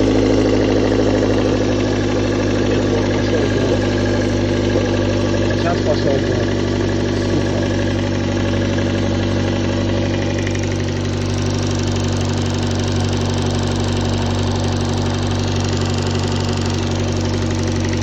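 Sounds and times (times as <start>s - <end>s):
engine idling with a knock: 0.0s - 18.0s.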